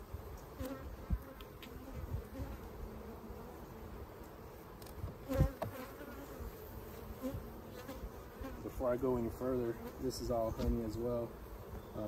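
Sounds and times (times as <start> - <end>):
bees buzzing: 0.1 - 12.0.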